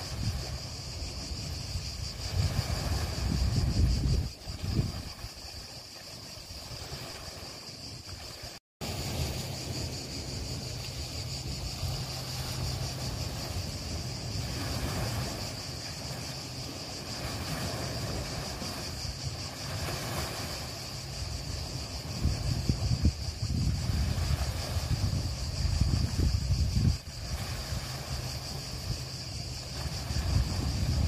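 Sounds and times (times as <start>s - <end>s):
surf: 0.0s - 31.0s
wind: 0.0s - 31.0s.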